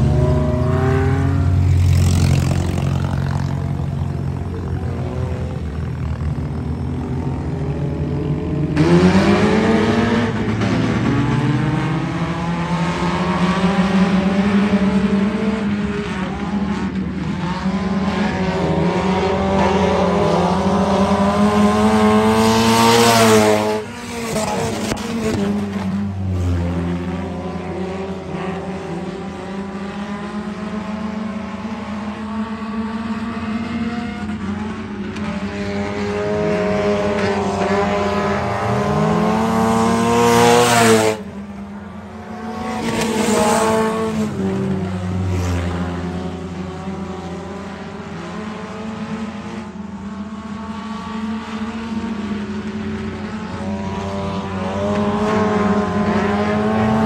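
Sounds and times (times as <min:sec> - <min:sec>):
race car engines at full throttle: 0:00.0 - 0:57.0.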